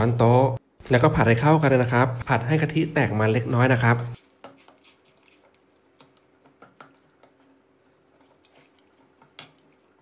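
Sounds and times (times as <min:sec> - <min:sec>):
cream frying: 0:00.9 - 0:10.0.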